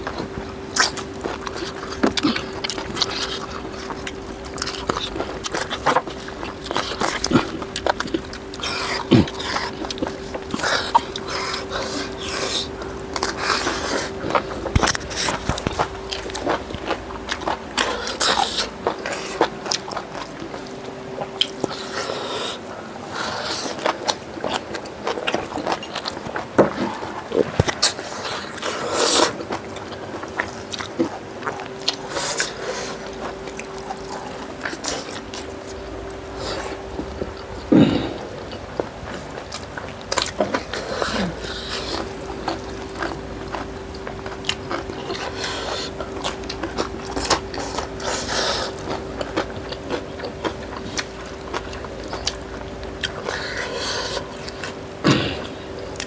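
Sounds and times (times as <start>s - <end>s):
wet chewing and mouth smacks: 0.0s - 37.8s, 38.4s - 56.0s
faint steady hum: 0.0s - 56.0s.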